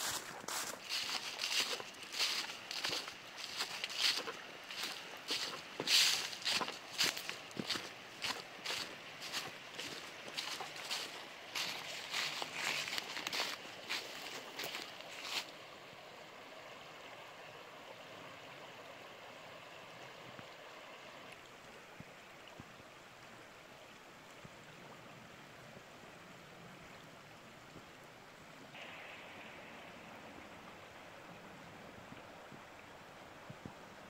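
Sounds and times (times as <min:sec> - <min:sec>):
river rushing: 0:00.0 - 0:22.4, 0:28.0 - 0:34.0.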